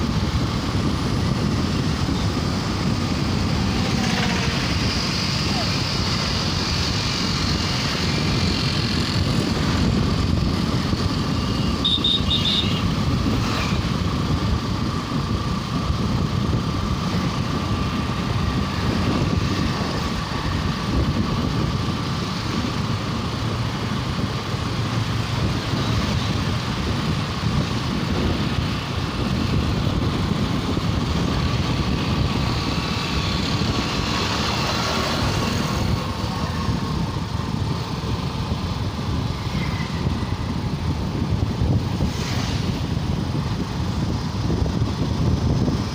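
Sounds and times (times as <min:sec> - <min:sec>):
motorcycle engine rumble: 0:00.0 - 0:45.9
passing vehicles: 0:00.0 - 0:45.9.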